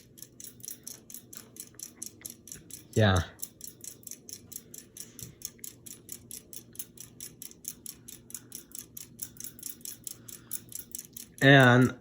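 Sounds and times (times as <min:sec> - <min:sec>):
ceiling fan motor hum: 0:00.0 - 0:12.0
rapid even ticking: 0:00.0 - 0:12.0.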